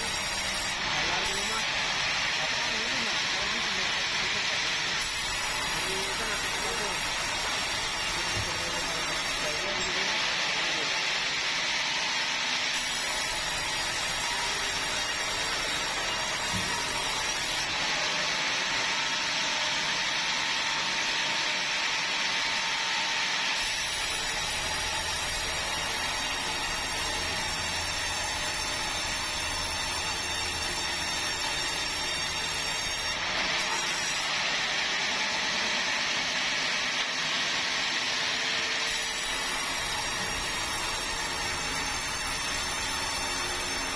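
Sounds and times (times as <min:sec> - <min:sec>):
sawmill saw cutting wood: 0:00.0 - 0:43.9.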